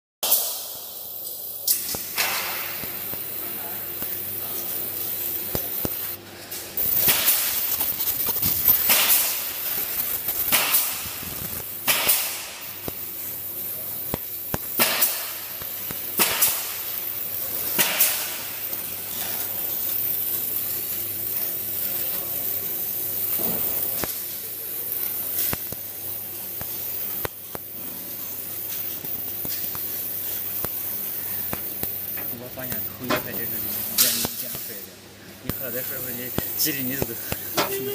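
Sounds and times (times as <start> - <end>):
laser cutting hissing bursts: 0.2 - 37.9.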